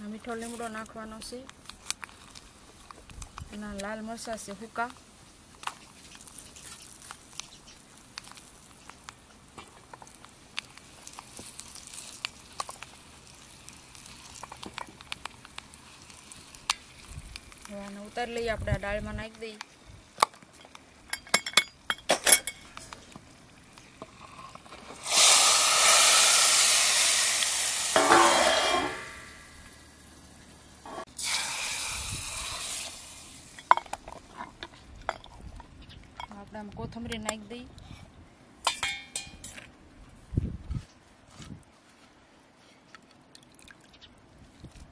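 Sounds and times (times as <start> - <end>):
hot oil sizzling with popping seeds: 0.0 - 36.3.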